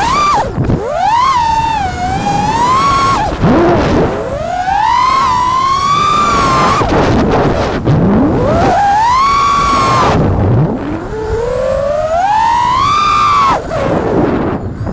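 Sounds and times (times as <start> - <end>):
quadcopter motors whining: 0.0 - 14.9.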